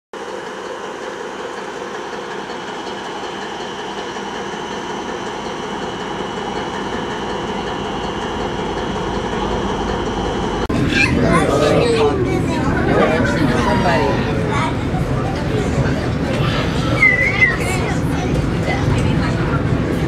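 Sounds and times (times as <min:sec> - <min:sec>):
diesel locomotive engine drone: 0:00.2 - 0:20.0.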